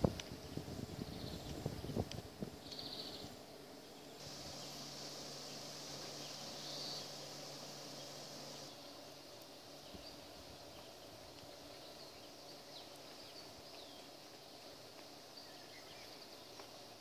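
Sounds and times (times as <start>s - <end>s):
soft background hiss: 0.0s - 17.0s
small birds chirping: 0.2s - 17.0s.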